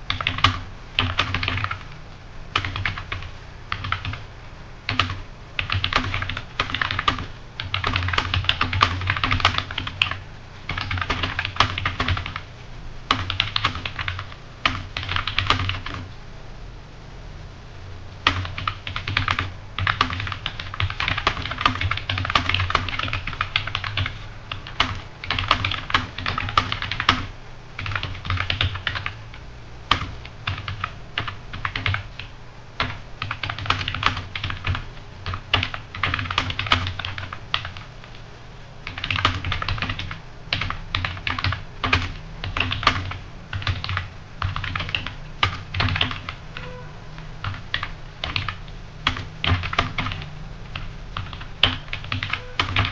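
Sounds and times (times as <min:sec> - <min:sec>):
computer keyboard typing: 0:00.0 - 0:04.2, 0:04.9 - 0:12.5, 0:13.1 - 0:16.1, 0:18.2 - 0:38.2, 0:38.8 - 0:46.8, 0:47.4 - 0:52.9.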